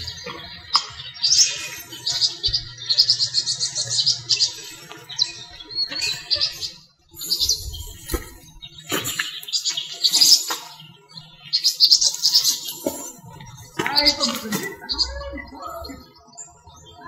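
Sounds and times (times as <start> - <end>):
rapidly repeated high bird notes: 0.0 - 17.0
songbirds chirping and twittering: 0.0 - 17.0.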